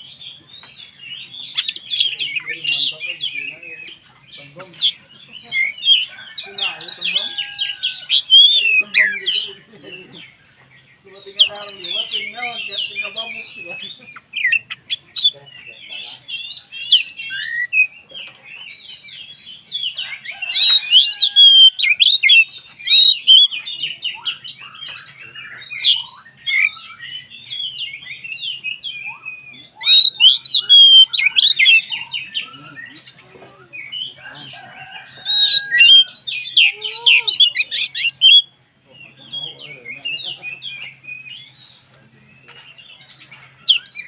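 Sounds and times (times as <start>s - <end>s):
bird singing chirps and whistles: 0.0s - 9.5s, 11.2s - 18.0s, 20.6s - 33.2s, 35.0s - 38.5s, 39.3s - 44.0s.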